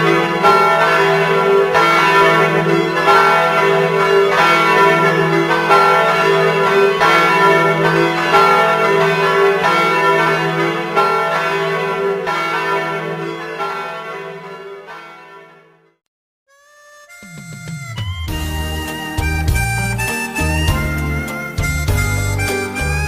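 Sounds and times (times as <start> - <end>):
church bells ringing: 0.0 - 15.9, 18.4 - 23.0.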